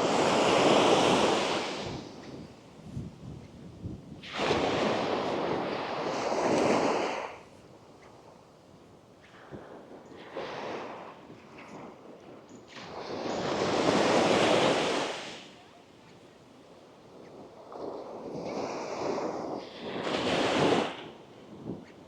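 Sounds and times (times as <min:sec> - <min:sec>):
small waves breaking on beach: 0:00.0 - 0:02.9, 0:04.2 - 0:22.0.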